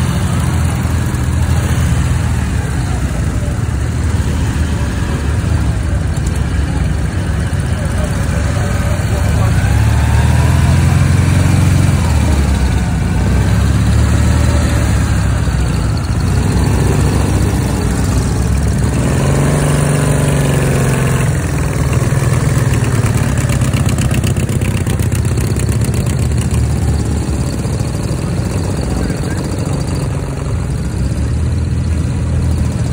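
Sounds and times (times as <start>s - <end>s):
motorcycle passing by: 0.0s - 5.9s, 7.5s - 32.9s
motorcycle engines running: 0.0s - 32.9s.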